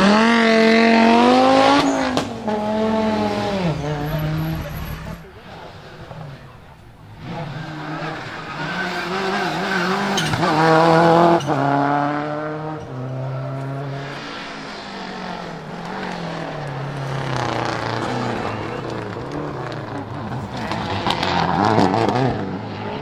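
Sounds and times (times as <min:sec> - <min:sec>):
rally car engines passing: 0:00.0 - 0:23.0.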